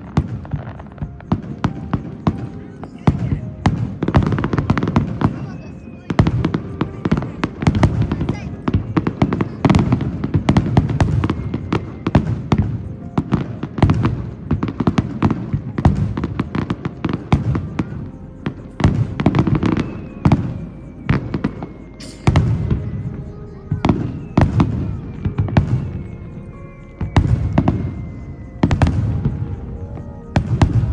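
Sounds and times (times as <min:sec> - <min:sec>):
fireworks bangs and crackles: 0:00.0 - 0:30.9
low fireworks booms: 0:00.0 - 0:30.9.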